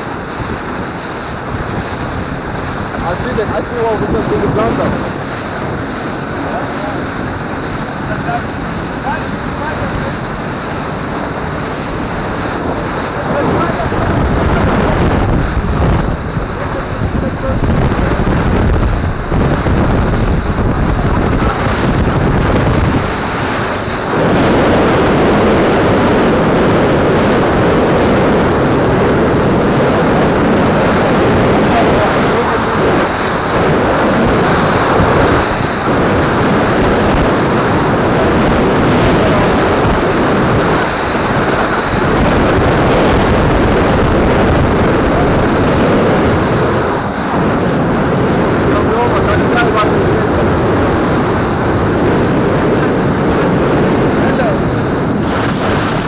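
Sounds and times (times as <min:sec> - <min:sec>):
boat engine: 0:00.0 - 0:56.0
water rushing along hull: 0:00.0 - 0:56.0
wind buffeting microphone: 0:00.0 - 0:56.0.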